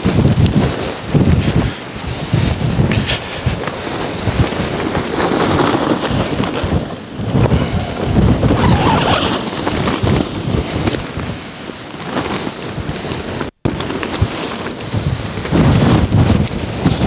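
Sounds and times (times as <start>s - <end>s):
strong gusting wind on microphone: 0.0s - 17.0s.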